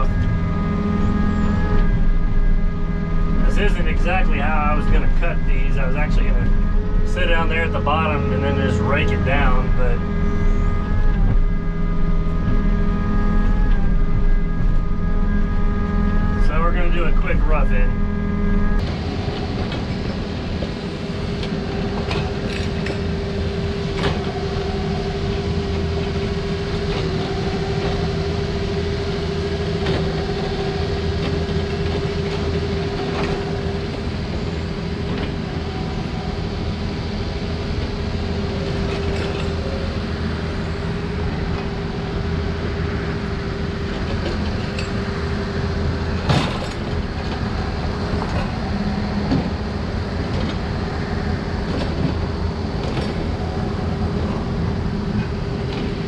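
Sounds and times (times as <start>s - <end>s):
excavator engine rumble and whine: 0.0s - 56.0s.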